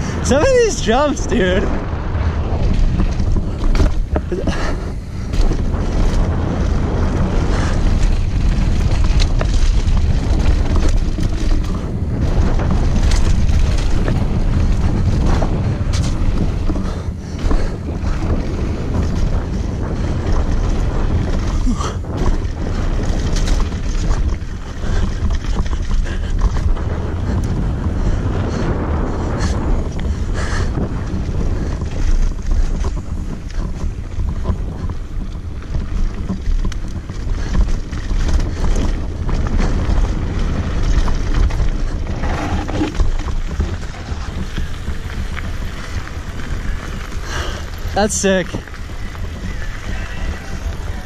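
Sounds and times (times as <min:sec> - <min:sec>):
bike knocking and rattling: 0:00.0 - 0:51.0
tyres rolling over dirt and rock: 0:00.0 - 0:51.0
wind rushing over microphone: 0:00.0 - 0:51.0.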